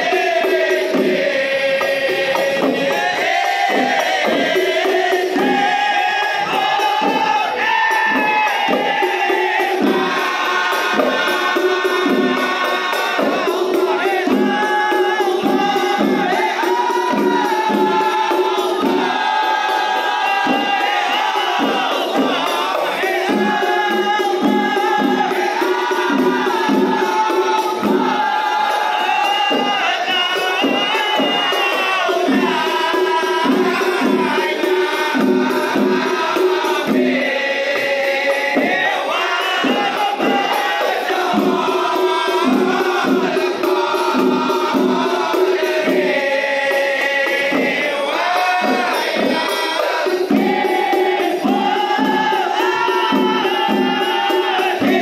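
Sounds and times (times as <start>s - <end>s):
frame drums beating: 0.0s - 55.0s
men singing together: 0.0s - 55.0s.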